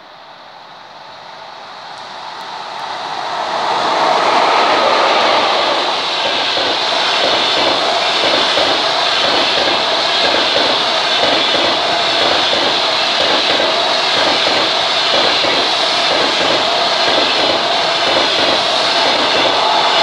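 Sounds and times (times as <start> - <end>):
electric locomotive passing: 0.0 - 20.0
wheels rushing on rail: 0.0 - 20.0.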